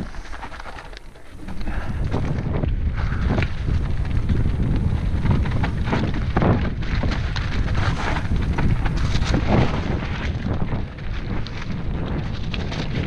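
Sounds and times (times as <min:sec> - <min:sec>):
bike rattling: 0:00.0 - 0:13.0
tyres crunching over stones: 0:00.0 - 0:13.0
wind buffeting microphone: 0:00.0 - 0:13.0.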